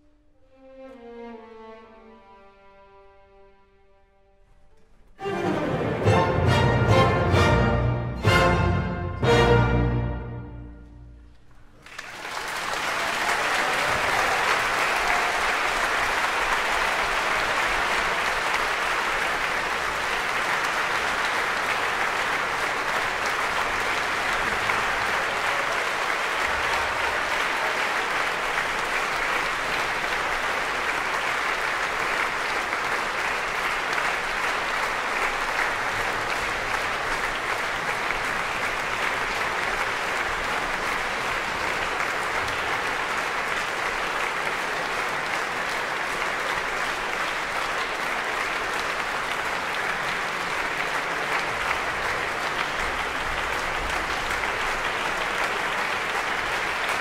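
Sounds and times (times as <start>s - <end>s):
audience applauding: 5.2s - 57.0s.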